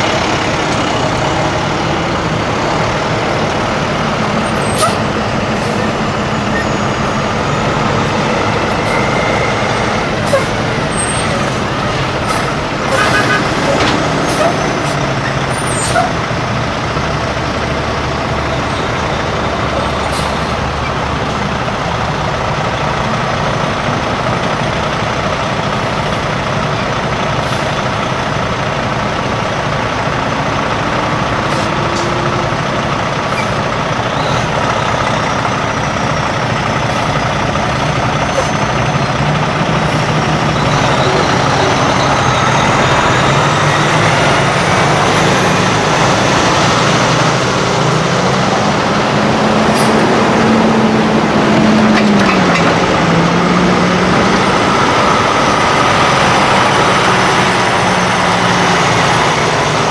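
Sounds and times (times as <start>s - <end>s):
road noise: 0.0s - 59.9s
truck engines running: 0.0s - 59.9s.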